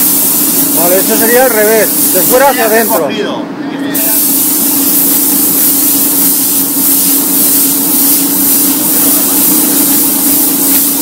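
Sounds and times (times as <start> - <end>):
paint spray gun hissing: 0.0 - 3.0, 4.0 - 11.0.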